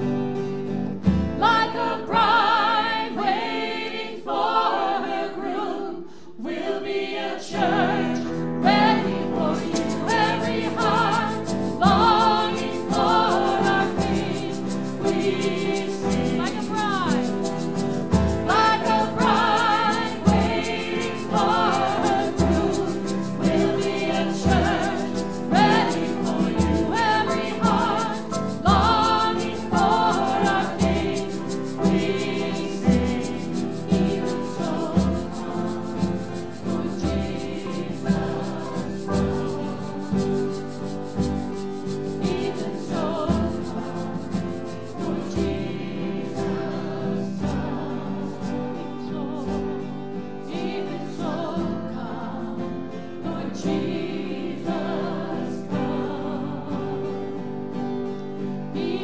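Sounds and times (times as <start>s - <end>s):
group singing worship song: 1.1s - 59.0s.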